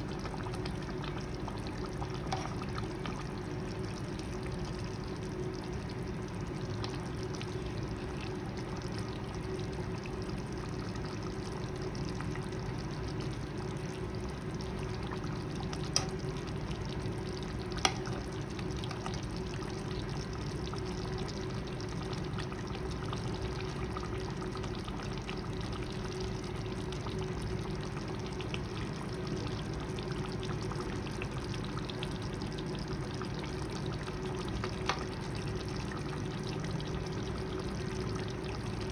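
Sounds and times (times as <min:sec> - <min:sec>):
curry sizzling in a pan: 0:00.0 - 0:38.9.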